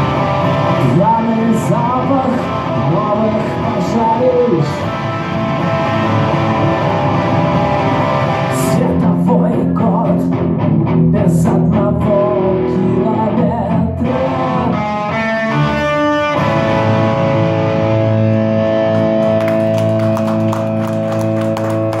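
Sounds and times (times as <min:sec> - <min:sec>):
instrumental rock music with guitar: 0:00.0 - 0:22.0.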